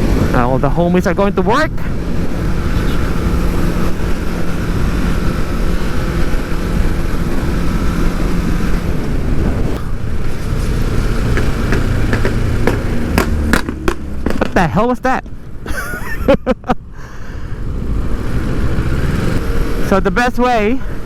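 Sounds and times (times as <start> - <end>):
motorcycle engine cruising: 0.0 - 21.0
wind noise: 0.0 - 21.0.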